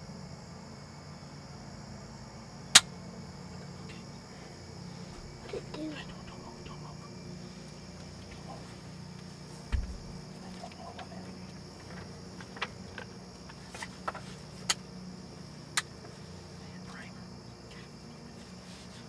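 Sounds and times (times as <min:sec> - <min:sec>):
high-pitched insect drone: 0:00.0 - 0:19.0
low background hum: 0:00.0 - 0:19.0.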